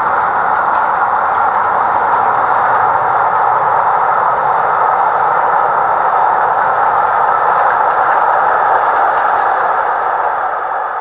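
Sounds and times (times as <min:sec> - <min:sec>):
steam train rushing at speed: 0:00.0 - 0:11.0.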